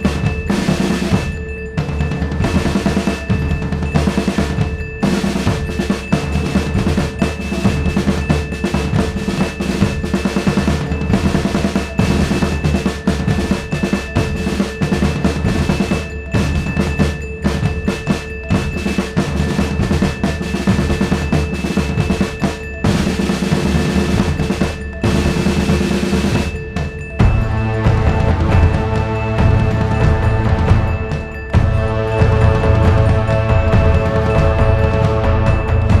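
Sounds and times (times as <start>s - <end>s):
music with busy drum beat: 0.0s - 36.0s.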